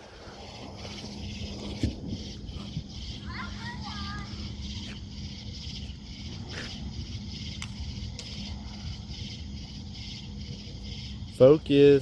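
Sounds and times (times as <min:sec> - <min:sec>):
faint pulsing high chirr: 0:00.0 - 0:12.0.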